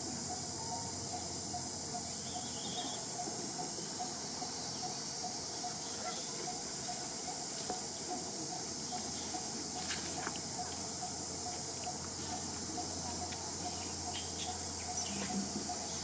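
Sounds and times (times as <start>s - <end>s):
high-pitched insect chorus: 0.0s - 16.0s
faint regular ticking call: 0.2s - 16.0s.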